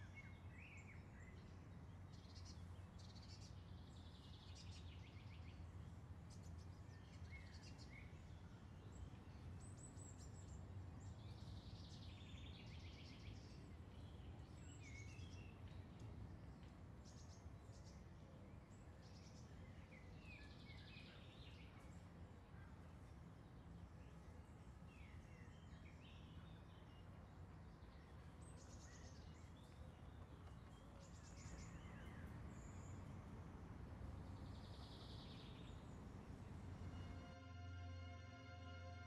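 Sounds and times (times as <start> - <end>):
small birds chirping: 0.0 - 36.7.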